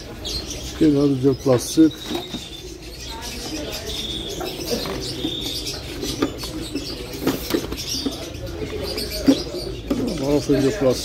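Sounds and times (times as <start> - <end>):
birds chirping: 0.0 - 11.0
birds cooing: 0.0 - 11.0.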